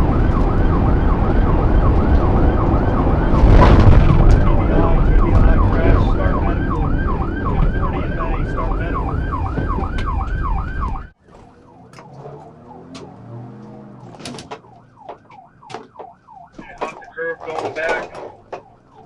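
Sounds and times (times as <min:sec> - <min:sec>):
police siren yelping: 0:00.0 - 0:19.0
road and engine noise: 0:00.0 - 0:19.0.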